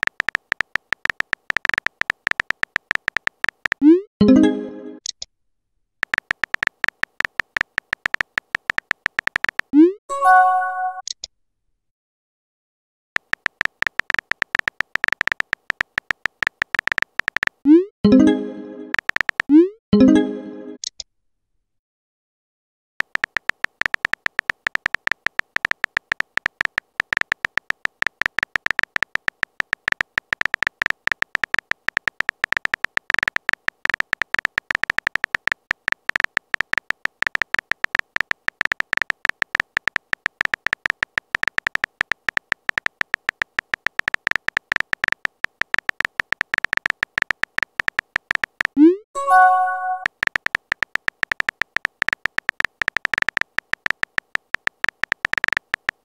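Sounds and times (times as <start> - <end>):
phone keyboard typing clicks: 0.0 - 4.0, 6.0 - 11.2, 13.2 - 18.3, 18.9 - 19.6, 23.0 - 56.0.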